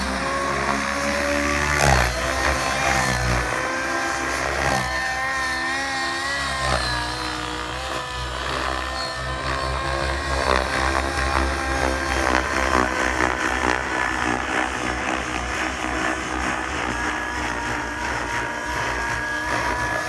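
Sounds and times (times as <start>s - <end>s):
rc helicopter engine and rotor: 0.0s - 20.0s.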